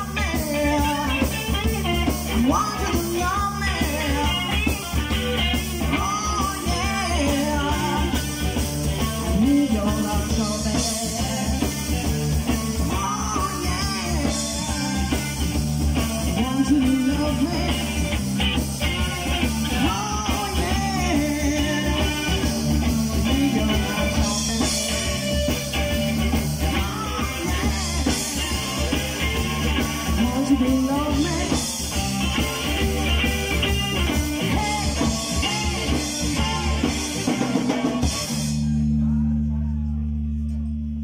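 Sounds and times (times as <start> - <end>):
blues-rock band playing: 0.0 - 39.1
electric guitar lead lines: 0.0 - 41.0.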